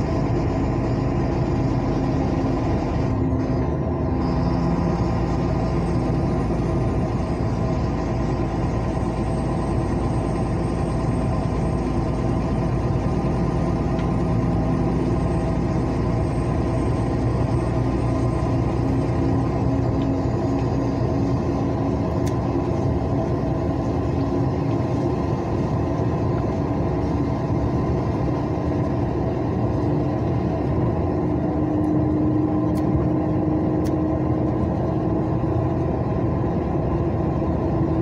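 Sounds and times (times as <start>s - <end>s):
diesel truck engine running: 0.0s - 38.0s
road noise: 0.0s - 38.0s.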